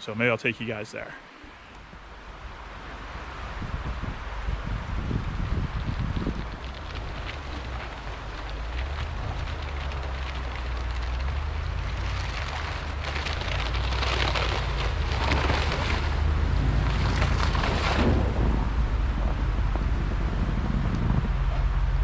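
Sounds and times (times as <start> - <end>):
tyres and wind rushing: 0.0 - 22.0
pickup truck driving: 1.9 - 22.0.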